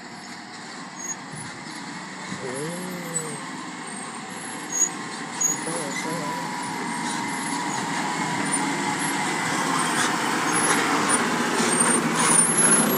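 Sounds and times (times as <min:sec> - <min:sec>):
diesel truck engine under load: 0:00.0 - 0:12.9.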